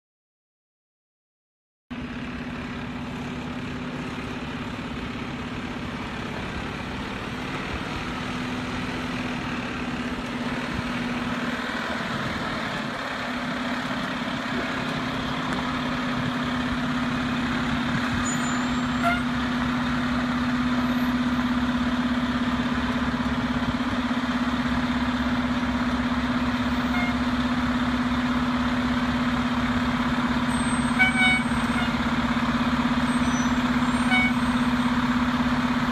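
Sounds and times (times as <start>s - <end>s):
fire truck diesel engine humming: 1.9s - 35.9s.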